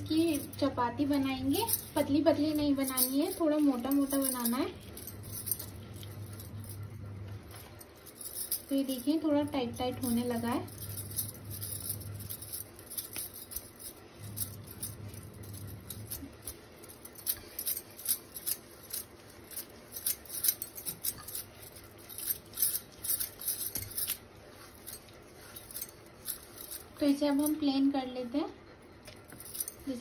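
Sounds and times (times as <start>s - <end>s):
bangles clicking and jingling: 0.0s - 27.9s, 29.1s - 30.0s.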